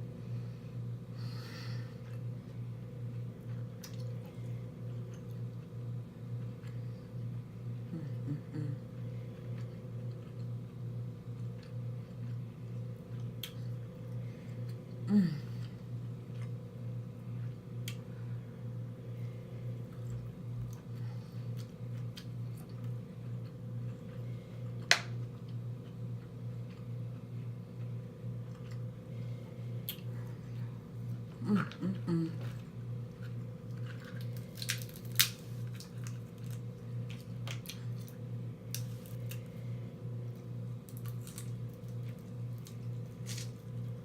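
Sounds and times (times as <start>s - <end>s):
low electrical hum: 0.0s - 44.0s.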